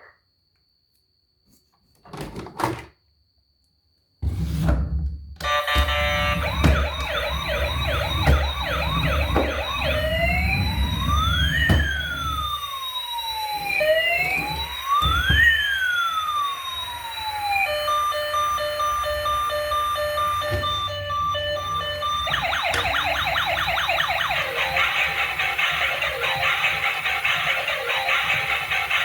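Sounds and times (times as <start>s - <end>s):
toy electronic siren: 5.4s - 29.0s.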